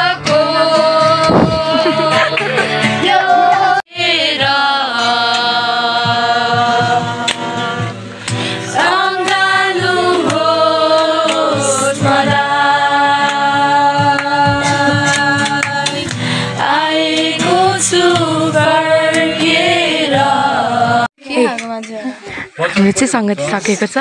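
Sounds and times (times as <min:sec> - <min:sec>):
group singing worship song: 0:00.0 - 0:21.1
acoustic guitar: 0:00.0 - 0:24.0.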